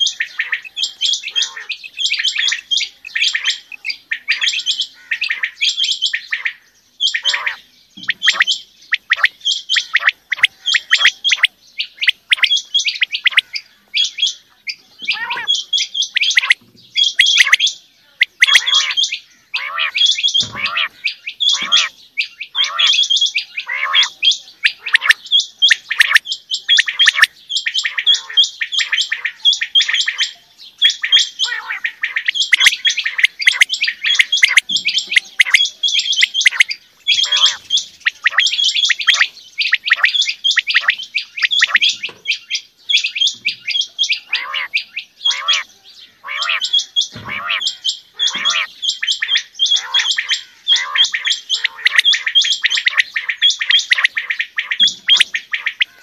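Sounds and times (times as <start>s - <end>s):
quails calling: 0.0s - 56.0s.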